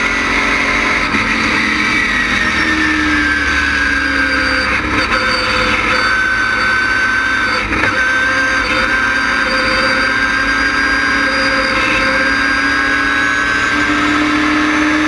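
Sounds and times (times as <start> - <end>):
car engine running: 0.0 - 15.0
high steady whine: 0.0 - 15.0.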